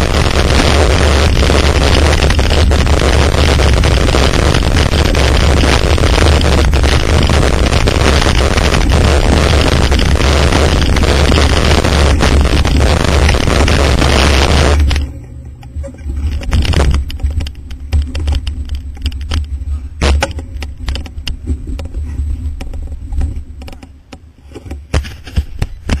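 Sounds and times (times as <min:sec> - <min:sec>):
loud dense sound: 0:00.0 - 0:21.5
wind rumbling on microphone: 0:00.0 - 0:24.1
bike and mount rattling: 0:00.0 - 0:26.0.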